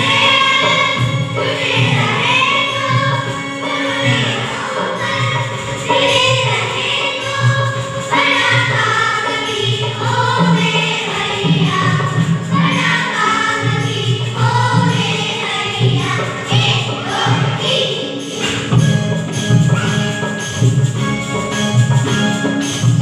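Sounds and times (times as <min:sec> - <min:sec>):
children's choir singing: 0:00.0 - 0:20.7.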